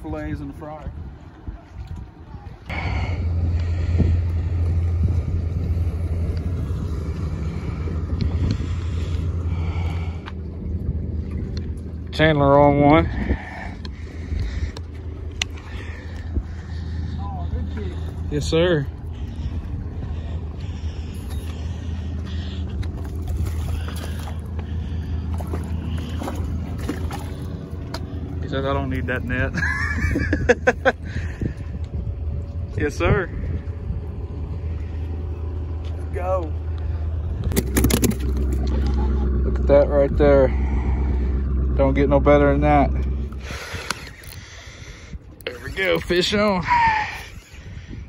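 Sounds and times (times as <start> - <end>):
motorboat engine rumbling: 0.0 - 48.0.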